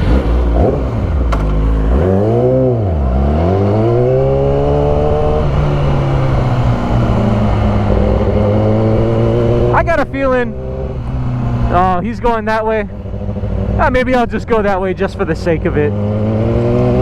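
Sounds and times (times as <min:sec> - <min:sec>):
car engine pulling away: 0:00.0 - 0:14.1, 0:15.4 - 0:17.0.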